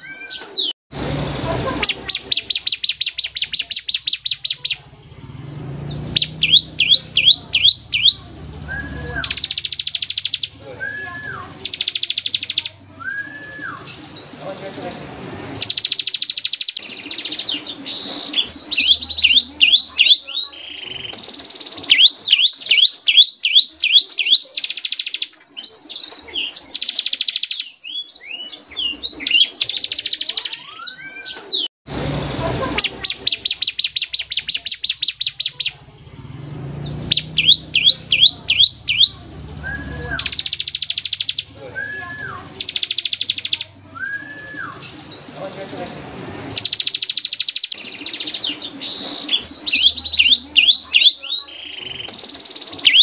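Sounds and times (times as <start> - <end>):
bird singing rattling trills: 1.6 - 31.7, 32.6 - 45.9, 46.5 - 53.0.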